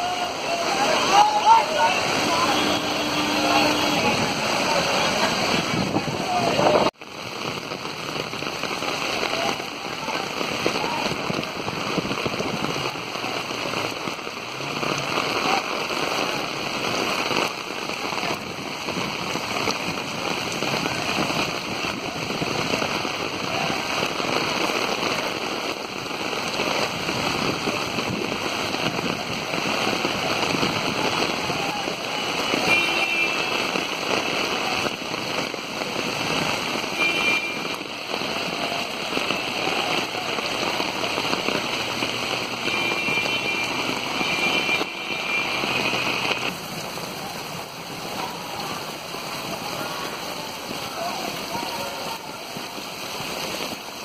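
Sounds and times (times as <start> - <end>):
heavy rain on a flooded street: 0.0 - 54.0.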